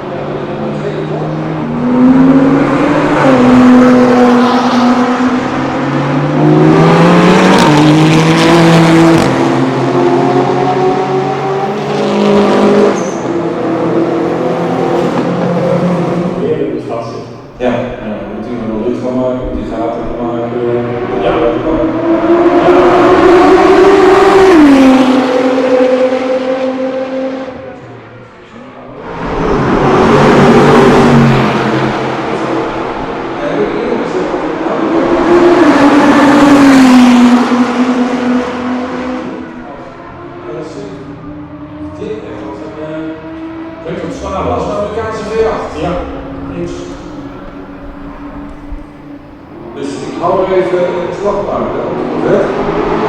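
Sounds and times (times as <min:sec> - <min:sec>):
race car engine at full throttle: 0:00.0 - 0:53.0.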